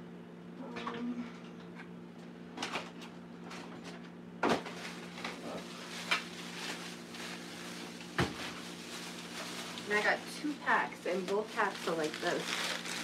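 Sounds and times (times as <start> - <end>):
frozen packages clunking and clattering: 2.6 - 13.0.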